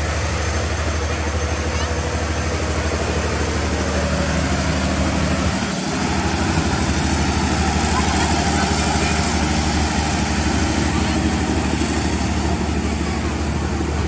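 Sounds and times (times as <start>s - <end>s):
low engine hum: 0.0s - 14.0s
train wheels rumbling on rail: 0.0s - 14.0s.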